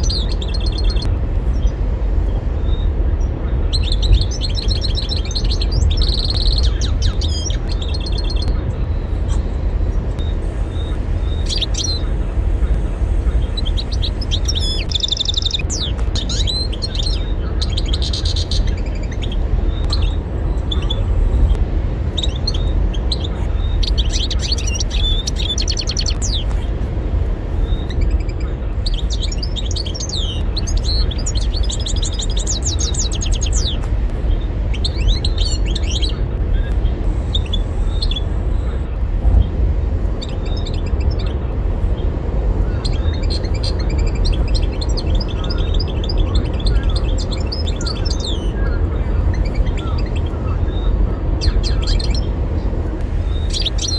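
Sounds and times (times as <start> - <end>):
bird twittering and chirping: 0.0 - 53.9
steady low rumble: 0.0 - 53.9.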